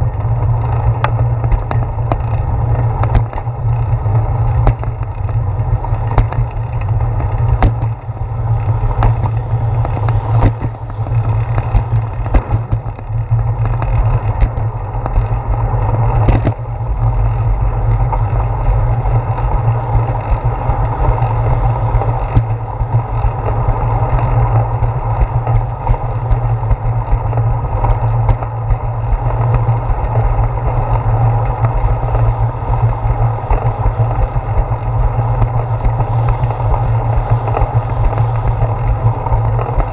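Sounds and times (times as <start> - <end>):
bicycle tyre noise on concrete: 0.0 - 39.9
bike and mount rattling: 0.0 - 39.9
wheels knocking on bumps: 0.0 - 39.9
wind rumble: 0.0 - 39.9.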